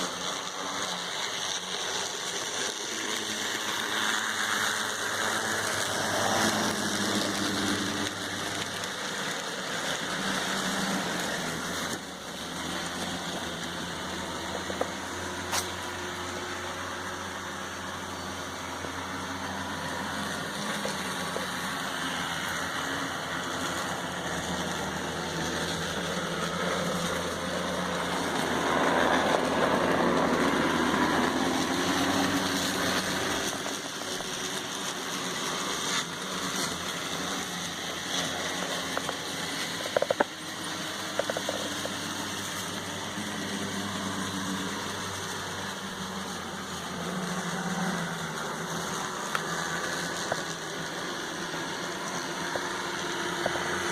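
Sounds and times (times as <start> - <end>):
model train motor whirring: 0.0 - 53.9.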